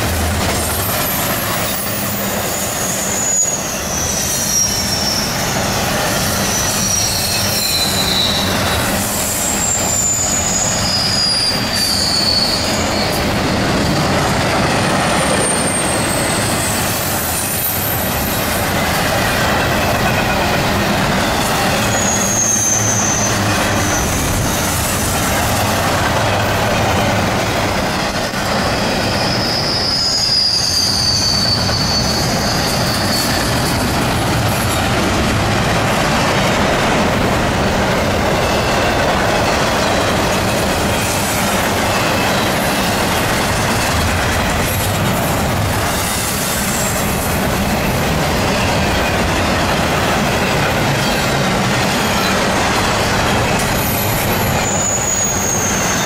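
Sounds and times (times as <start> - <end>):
wheels squealing: 0.0 - 36.3, 38.1 - 56.0
train wheels rumbling on rail: 0.0 - 56.0.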